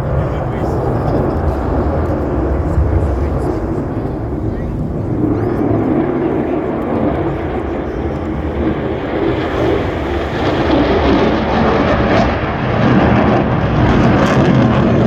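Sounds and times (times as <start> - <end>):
airplane engine flying past: 0.0 - 15.0.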